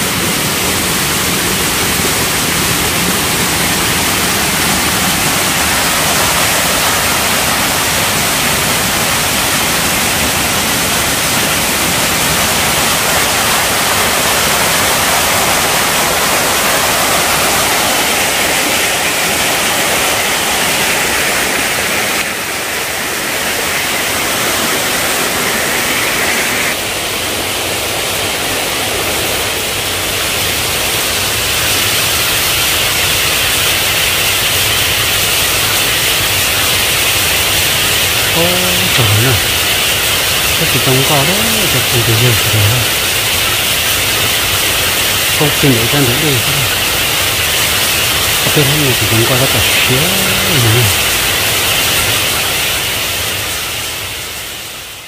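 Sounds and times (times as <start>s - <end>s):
stream cascading over rocks: 0.0s - 55.0s.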